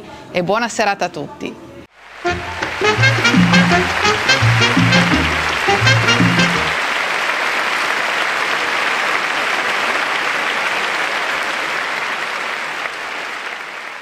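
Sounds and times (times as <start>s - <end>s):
audience applauding: 2.1s - 14.0s.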